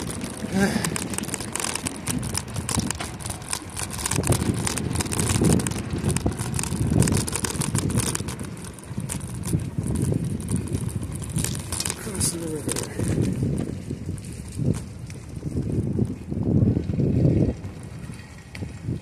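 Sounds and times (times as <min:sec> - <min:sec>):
bicycle tyres rumbling on wooden planks: 0:00.0 - 0:19.0.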